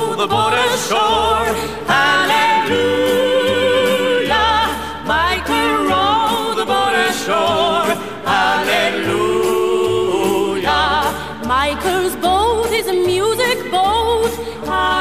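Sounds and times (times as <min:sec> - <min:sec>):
instrumental accompaniment: 0:00.0 - 0:15.0
voices singing folk song: 0:00.0 - 0:15.0.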